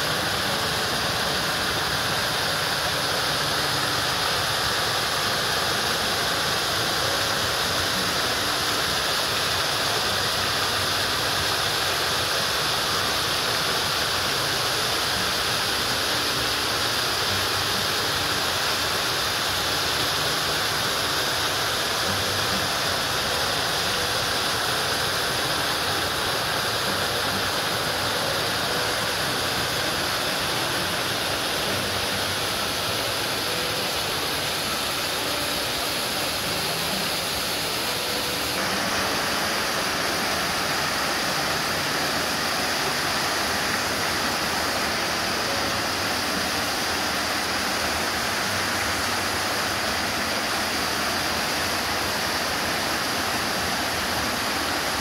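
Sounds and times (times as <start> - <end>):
waterfall splashing into pool: 0.0 - 55.0.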